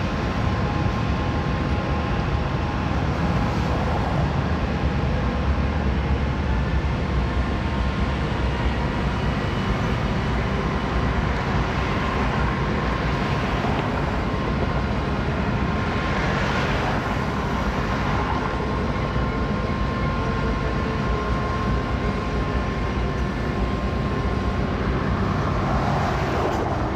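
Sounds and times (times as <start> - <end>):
freight train rumbling by: 0.0 - 26.9.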